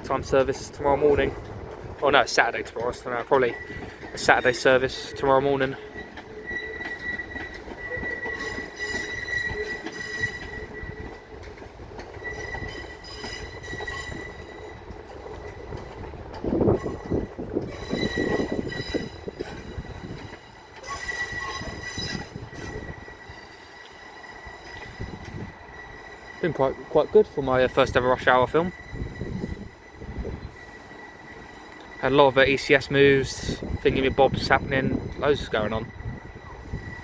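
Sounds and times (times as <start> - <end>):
train wheel flange squeal: 2.7 - 37.0.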